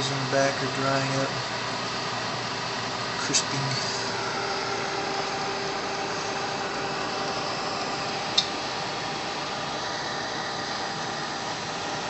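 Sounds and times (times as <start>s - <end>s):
oven fan humming: 0.0s - 12.0s.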